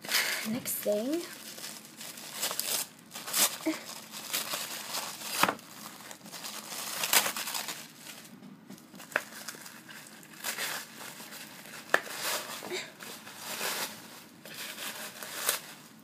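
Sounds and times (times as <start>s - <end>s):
tissue paper crinkling: 0.0s - 16.0s.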